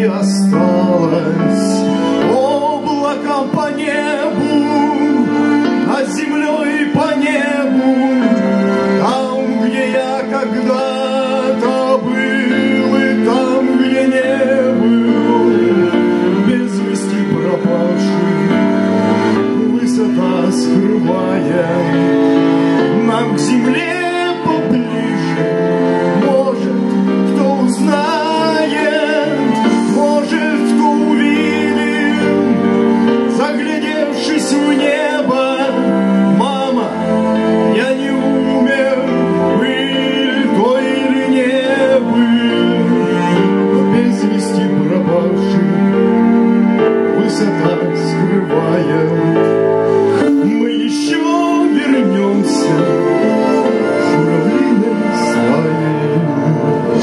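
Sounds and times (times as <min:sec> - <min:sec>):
man singing into a microphone: 0:00.0 - 0:57.0
musical accompaniment: 0:00.0 - 0:57.0.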